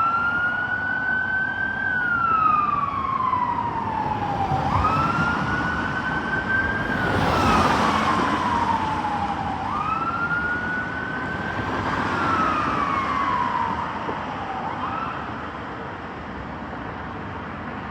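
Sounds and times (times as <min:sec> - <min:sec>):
fire engine siren wailing: 0:00.0 - 0:15.8.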